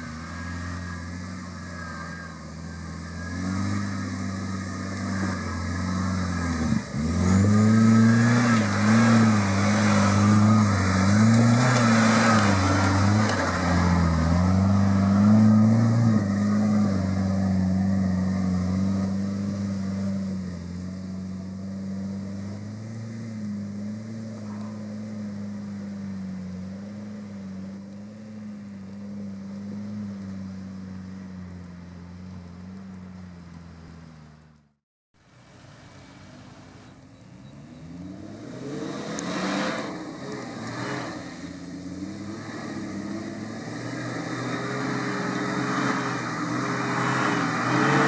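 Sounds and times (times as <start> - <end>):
vehicle engine revving under load: 0.0 - 34.8, 36.1 - 48.0.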